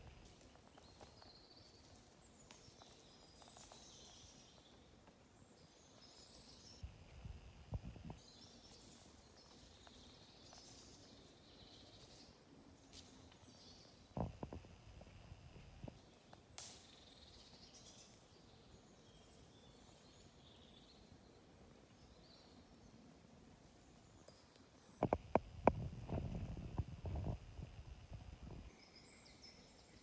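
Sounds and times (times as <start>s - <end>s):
faint birdsong chirping: 0.0s - 30.0s.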